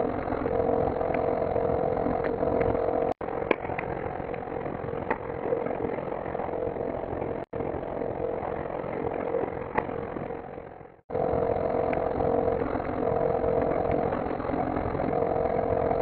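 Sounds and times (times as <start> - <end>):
rumbling drone with hum: 0.0 - 16.0.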